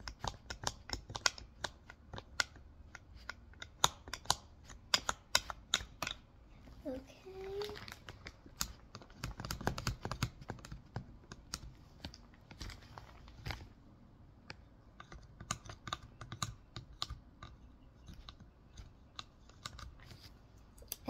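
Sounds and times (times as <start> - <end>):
plastic tool clicking on plastic: 0.0 - 6.3, 7.6 - 12.8, 14.4 - 20.1.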